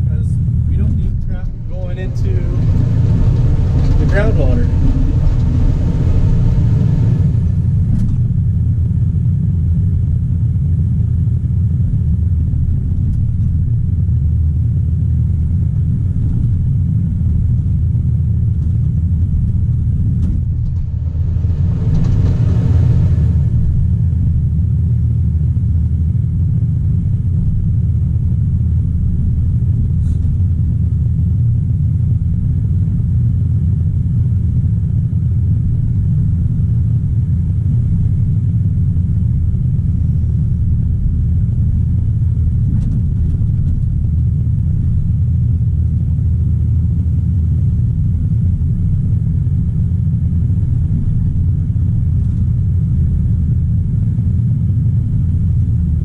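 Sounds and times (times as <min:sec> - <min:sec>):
diesel engine low drone: 0:00.0 - 0:56.0.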